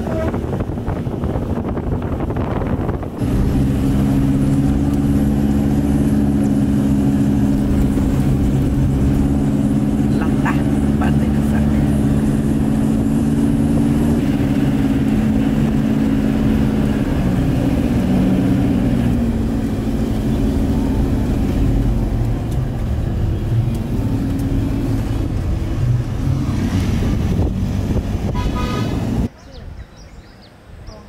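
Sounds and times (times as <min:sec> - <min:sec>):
vehicle engine under load: 0:00.0 - 0:29.3
low road rumble: 0:00.0 - 0:31.0.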